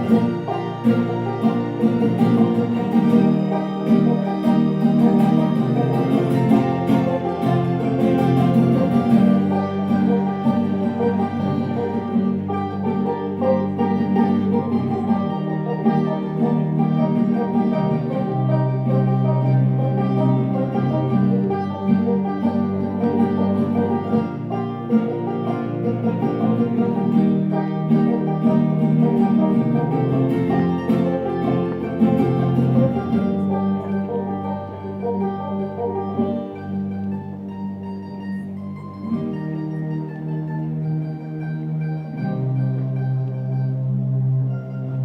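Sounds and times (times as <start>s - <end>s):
banjo and mandolin playing: 0.0s - 45.0s.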